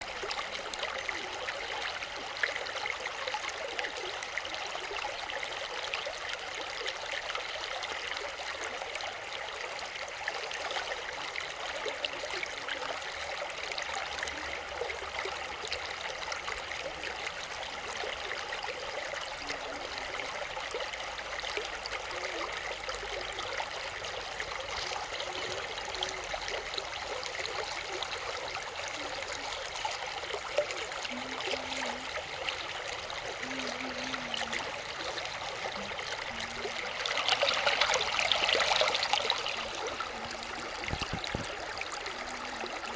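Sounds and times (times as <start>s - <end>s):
water flowing: 0.0s - 42.9s.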